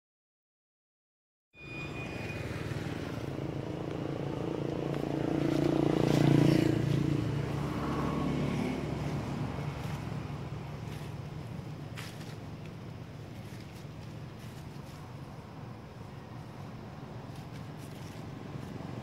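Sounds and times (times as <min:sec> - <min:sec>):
vehicle engine passing by: 0:02.0 - 0:19.0.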